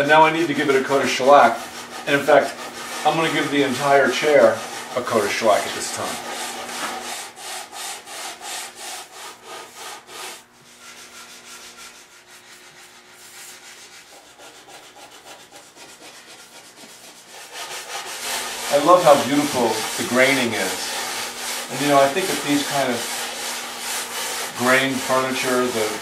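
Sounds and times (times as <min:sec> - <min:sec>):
brush scratching on wood: 0:00.0 - 0:26.0.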